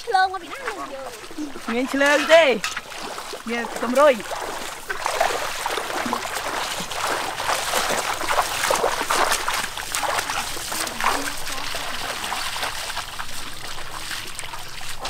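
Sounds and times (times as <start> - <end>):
feet splashing through water: 0.0 - 15.0.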